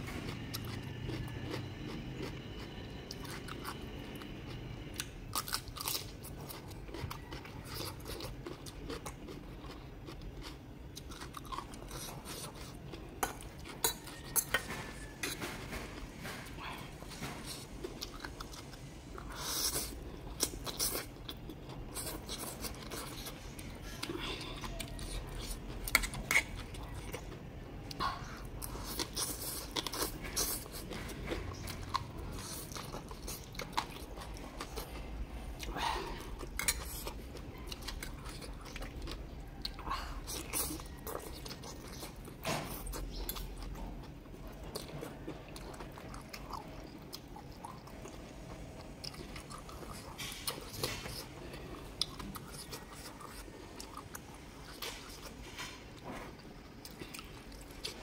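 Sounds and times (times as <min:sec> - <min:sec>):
person slurping and chewing noodles: 0:00.0 - 0:58.0.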